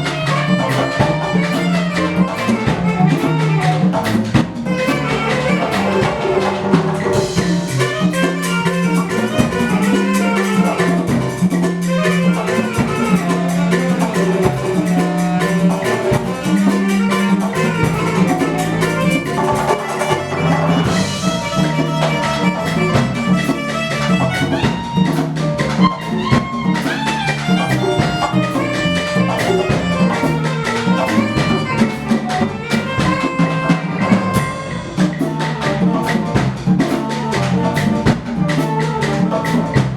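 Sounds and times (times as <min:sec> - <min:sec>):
drums keeping rhythm: 0:00.0 - 0:39.9
low bass line: 0:00.0 - 0:39.9
pitched melodic notes: 0:00.0 - 0:39.9.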